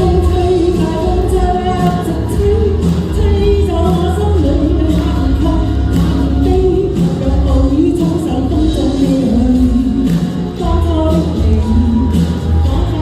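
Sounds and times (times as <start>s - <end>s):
backing track with bass beat: 0.0s - 13.0s
person singing pop song: 0.0s - 13.0s.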